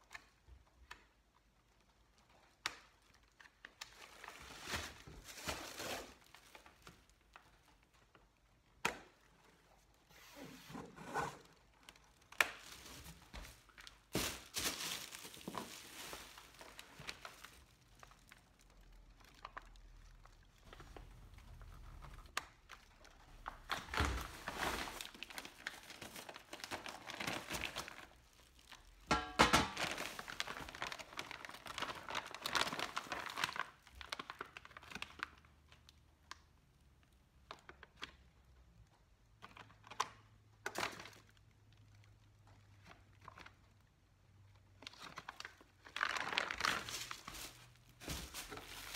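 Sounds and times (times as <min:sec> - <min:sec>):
plastic wrap crinkling: 0:00.1 - 0:10.5, 0:11.4 - 0:38.2, 0:39.4 - 0:48.9.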